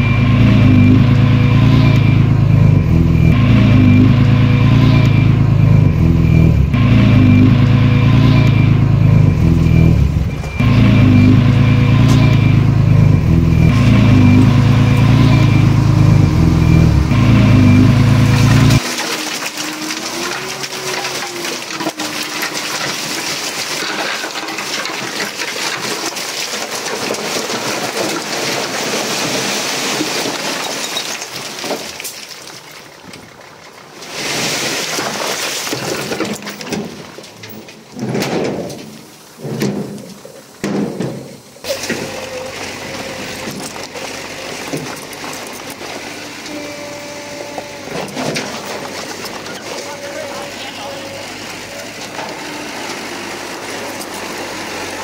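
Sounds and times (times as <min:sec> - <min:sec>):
heavy diesel engine running: 0:00.0 - 0:30.7, 0:41.2 - 0:55.0.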